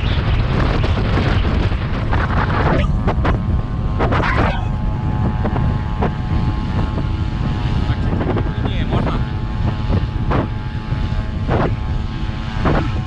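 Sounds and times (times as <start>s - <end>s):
steady droning tone: 0.0s - 13.0s
wind buffeting microphone: 0.0s - 13.0s.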